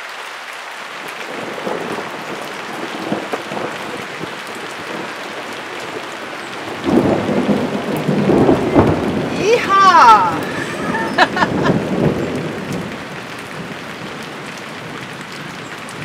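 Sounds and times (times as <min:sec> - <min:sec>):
heavy rain falling: 0:00.0 - 0:16.0
thunder rumbling: 0:01.2 - 0:16.0.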